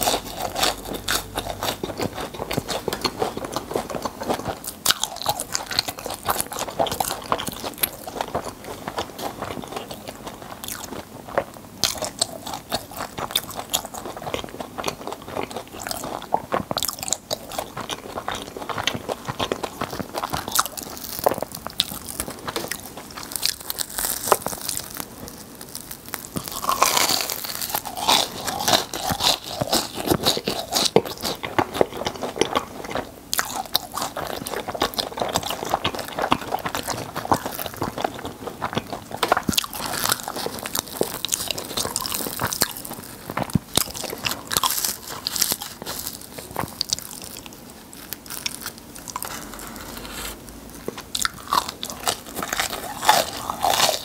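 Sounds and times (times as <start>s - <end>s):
crunching and chewing fried pastry: 0.0s - 54.0s.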